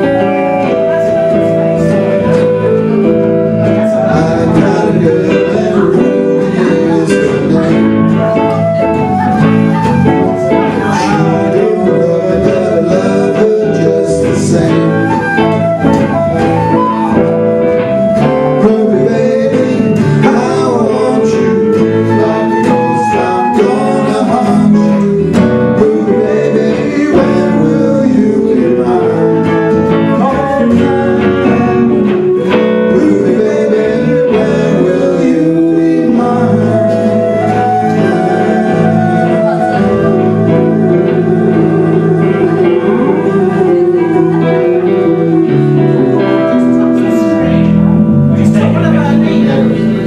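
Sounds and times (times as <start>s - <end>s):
backing band playing: 0.0s - 50.0s
guitar: 0.0s - 50.0s
person singing: 0.0s - 50.0s.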